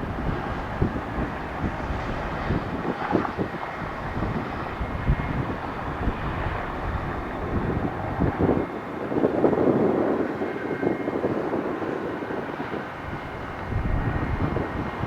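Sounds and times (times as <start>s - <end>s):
distant jet engine noise: 0.0s - 15.0s
wind buffeting microphone: 0.0s - 15.0s.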